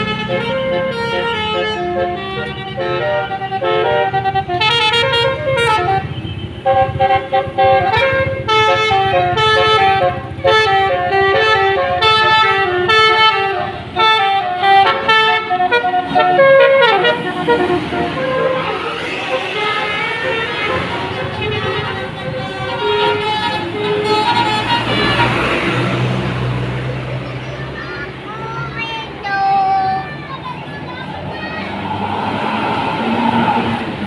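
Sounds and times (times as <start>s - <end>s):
multi-tone bus horn tune: 0.0s - 27.4s
bus engine running: 0.0s - 31.8s.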